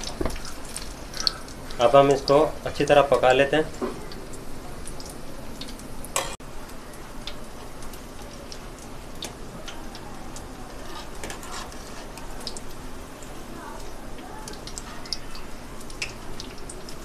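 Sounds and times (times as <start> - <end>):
deep-frying sizzle with pops: 0.0 - 17.0.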